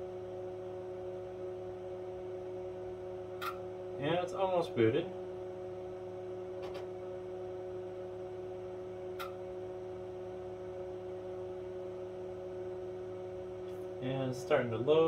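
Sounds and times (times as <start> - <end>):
oscilloscope fan humming: 0.0 - 15.0.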